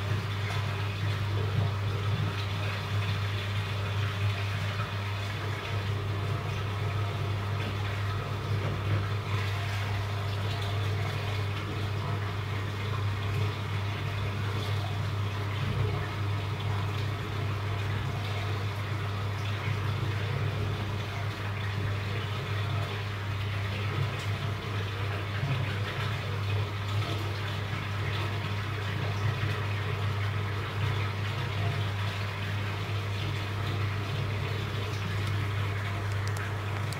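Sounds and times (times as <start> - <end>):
aquarium equipment humming: 0.0 - 36.9
water trickling and bubbling: 0.0 - 36.9.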